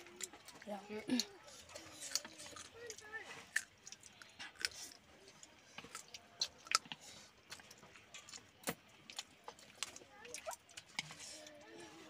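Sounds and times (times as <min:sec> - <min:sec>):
chewing and slurping noodles: 0:00.0 - 0:12.0.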